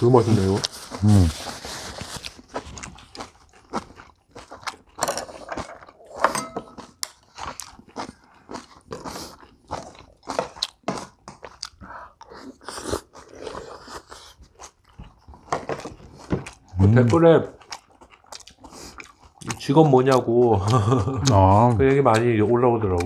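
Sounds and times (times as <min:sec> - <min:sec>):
close-up crunching and chewing: 0:00.0 - 0:23.0.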